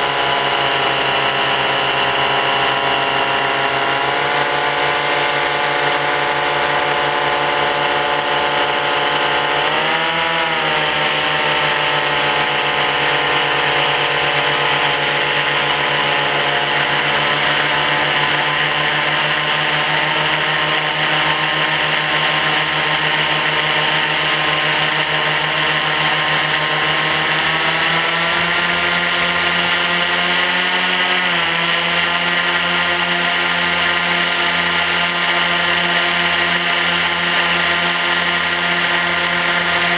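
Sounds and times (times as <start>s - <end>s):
propeller motors whining: 0.0s - 39.9s.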